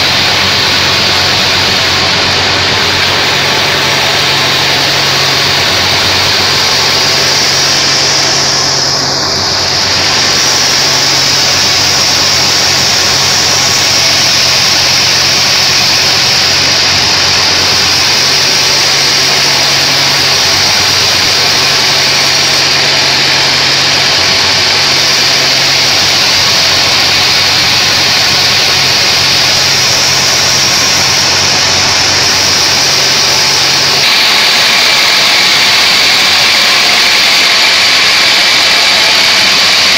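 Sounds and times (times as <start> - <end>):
saw blade hissing through wood: 0.0 - 39.9
sawmill drive droning: 0.0 - 39.9.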